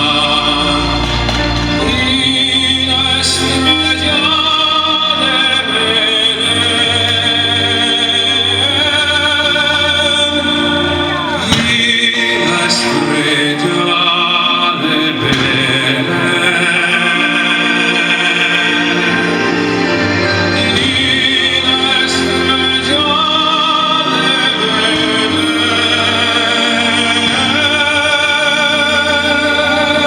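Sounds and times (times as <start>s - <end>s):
operatic singing with music: 0.0s - 30.0s.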